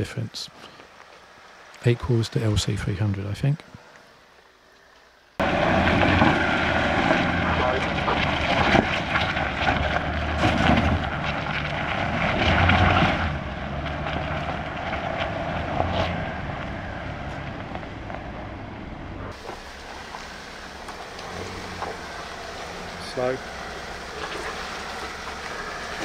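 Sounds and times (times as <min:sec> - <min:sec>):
tyres grinding over dirt and stones: 0:00.0 - 0:26.0
engine working under load: 0:03.7 - 0:26.0.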